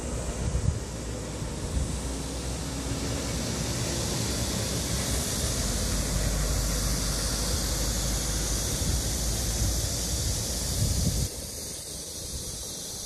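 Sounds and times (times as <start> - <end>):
wind rumbling on microphone: 0.0 - 2.3, 3.0 - 12.8
road traffic rushing: 0.0 - 11.3.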